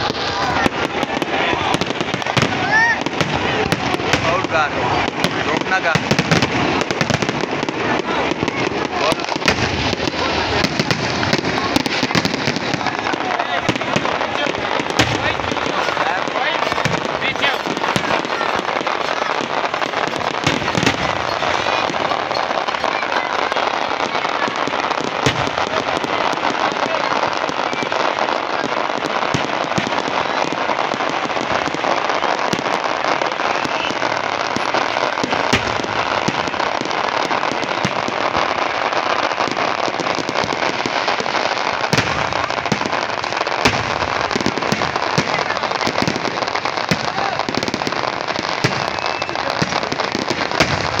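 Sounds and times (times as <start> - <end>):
fireworks bangs: 0.0 - 51.0
fireworks crackling and popping: 0.0 - 51.0.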